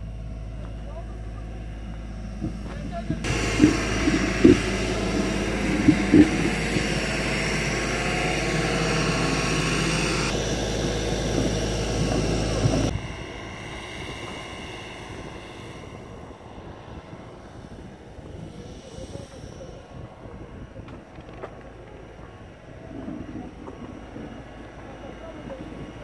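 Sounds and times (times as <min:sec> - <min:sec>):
truck diesel engine straining: 0:00.0 - 0:26.0.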